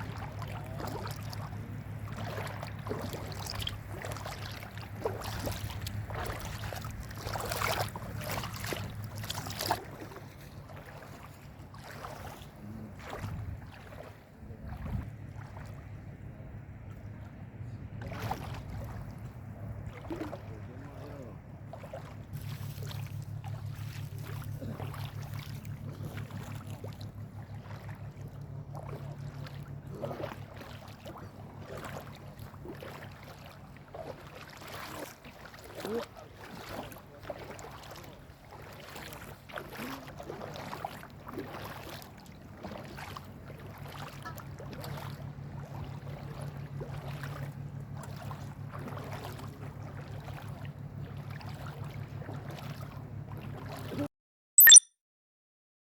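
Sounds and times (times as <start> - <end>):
low motor hum: 0.0 - 54.1
footsteps splashing in shallow water: 0.0 - 54.8.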